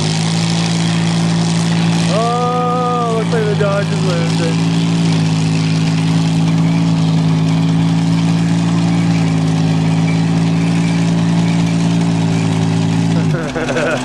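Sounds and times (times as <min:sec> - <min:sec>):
vehicle engine running under heavy load: 0:00.0 - 0:14.0.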